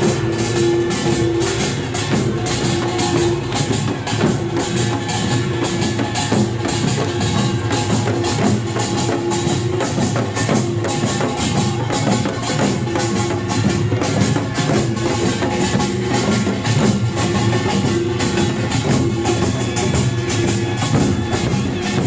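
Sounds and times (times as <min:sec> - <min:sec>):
barrel drums: 0:00.0 - 0:22.0
hourglass drums: 0:00.0 - 0:22.0.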